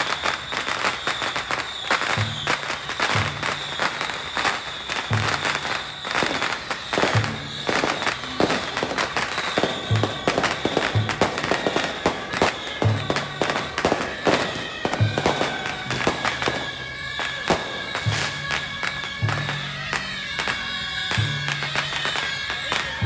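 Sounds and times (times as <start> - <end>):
firecrackers crackling and popping: 0.0 - 23.0
marching brass band: 0.0 - 23.0.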